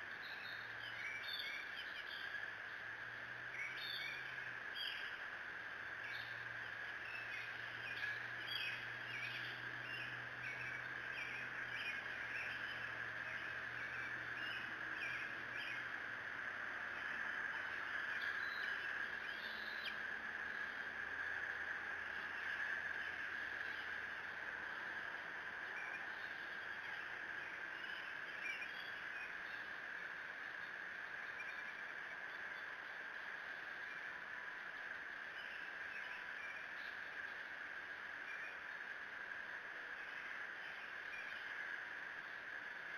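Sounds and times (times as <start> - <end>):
faint songbirds chirping: 0.0 - 42.9
high-pitched outdoor hiss: 0.0 - 42.9.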